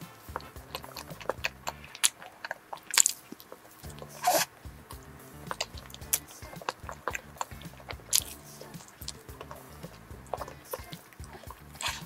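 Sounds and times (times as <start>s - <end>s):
faint background music: 0.0s - 12.0s
crunchy chewing of cake: 0.1s - 12.0s.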